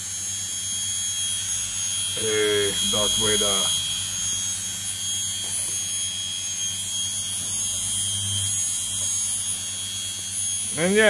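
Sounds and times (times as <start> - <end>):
washing machine motor hum and whine: 0.0 - 11.0.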